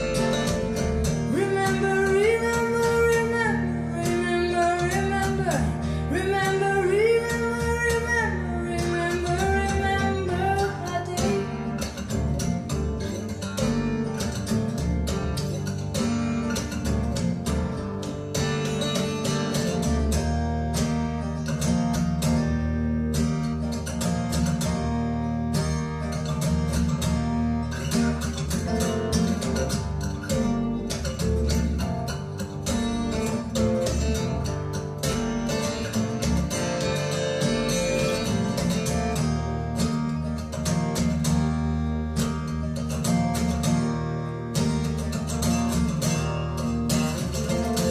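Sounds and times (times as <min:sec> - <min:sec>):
acoustic guitar music through speakers: 0:00.0 - 0:47.9.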